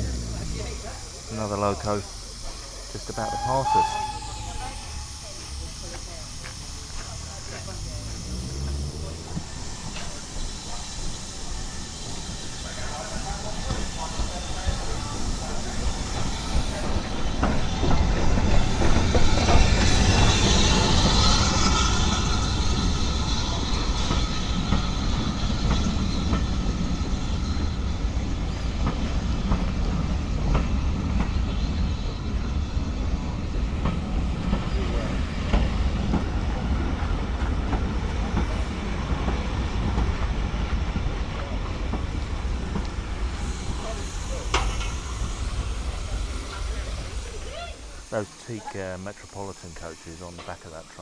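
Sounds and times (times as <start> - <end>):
steam locomotive passing: 0.0 - 51.0
train wheels clicking over rail joints: 0.0 - 51.0.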